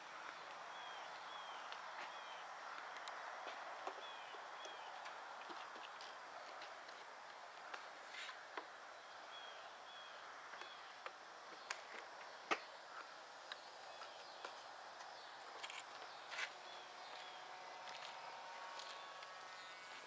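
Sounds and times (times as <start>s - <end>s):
faint outdoor background noise: 0.0s - 20.0s.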